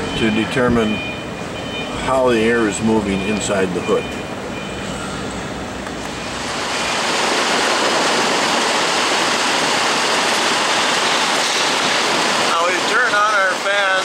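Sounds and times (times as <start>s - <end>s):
fans blowing air: 0.0s - 14.0s.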